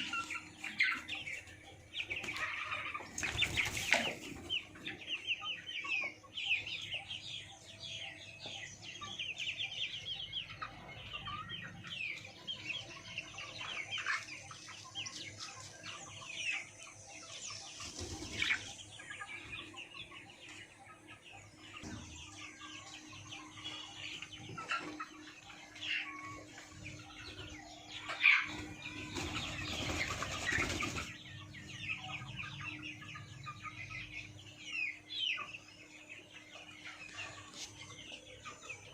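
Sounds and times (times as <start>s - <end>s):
chickens peeping and clucking: 0.0s - 38.9s.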